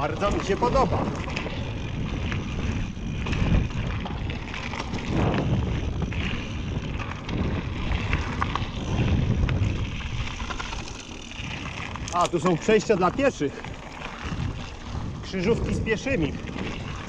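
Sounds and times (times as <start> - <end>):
bike clicks and rattles: 0.0 - 17.0
tyres rumbling over trail: 0.0 - 17.0
wind noise on microphone: 0.0 - 17.0.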